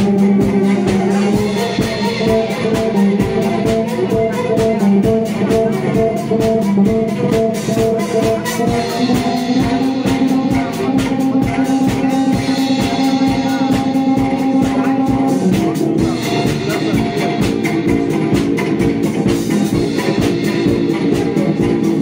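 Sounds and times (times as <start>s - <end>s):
steady drum beat: 0.0s - 22.0s
upbeat band music: 0.0s - 22.0s.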